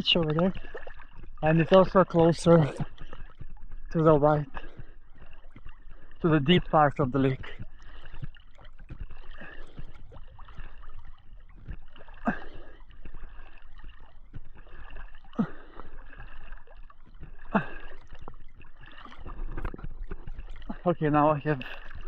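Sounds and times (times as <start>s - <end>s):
swimming stroke water swish: 0.0s - 22.0s
water sloshing and gurgling: 0.0s - 22.0s.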